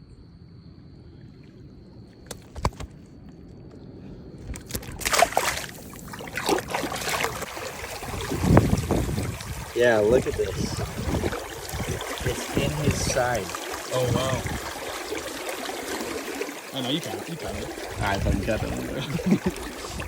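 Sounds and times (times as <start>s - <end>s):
water splashing and sloshing: 0.9s - 20.0s.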